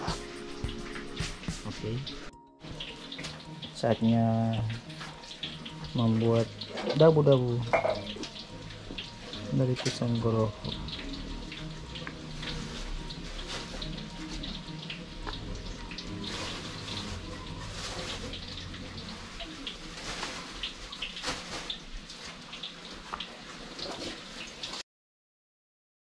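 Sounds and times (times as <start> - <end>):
bananas frying in hot oil: 0.0 - 24.8.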